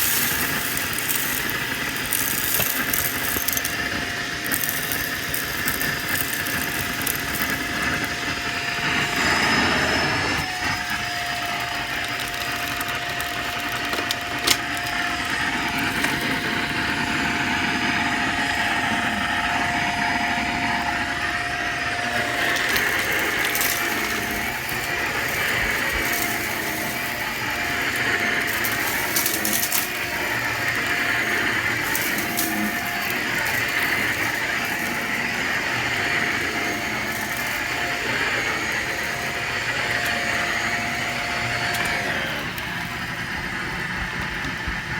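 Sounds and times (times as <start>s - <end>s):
debris rattling through vacuum: 0.0s - 44.9s
vacuum cleaner running: 0.0s - 44.9s.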